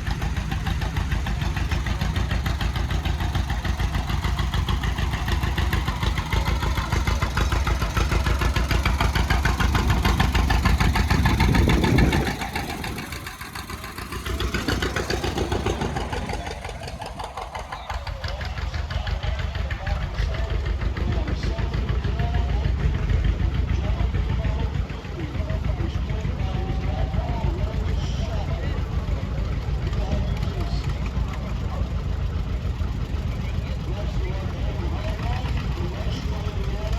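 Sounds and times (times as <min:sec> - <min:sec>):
tractor engines rumbling: 0:00.0 - 0:36.9.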